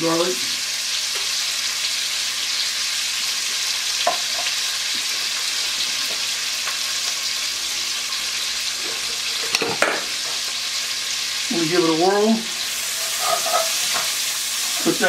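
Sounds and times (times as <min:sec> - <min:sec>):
onion sizzling in hot fat: 0:00.0 - 0:15.0.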